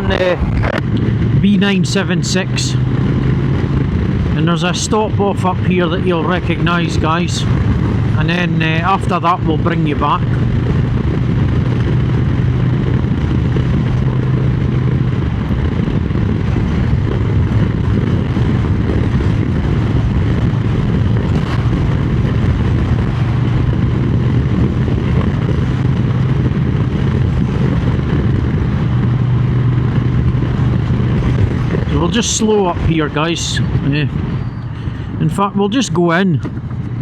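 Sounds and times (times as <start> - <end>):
motorcycle engine cruising: 0.0 - 37.0
wind noise: 0.0 - 37.0.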